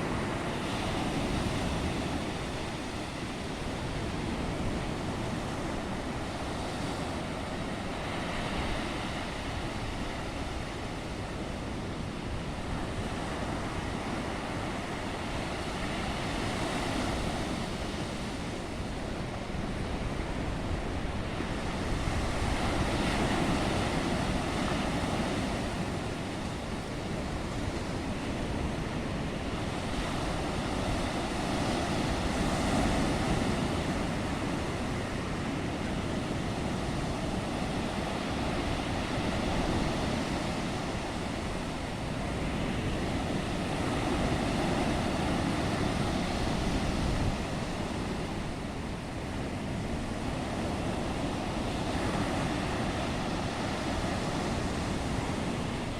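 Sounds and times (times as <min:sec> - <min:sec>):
waves breaking: 0:00.0 - 0:55.9.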